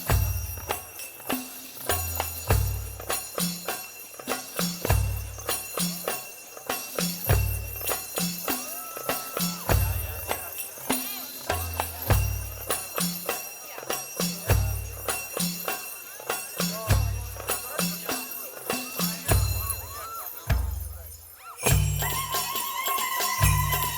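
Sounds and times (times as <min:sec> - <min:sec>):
jingling percussion: 0:00.0 - 0:23.9.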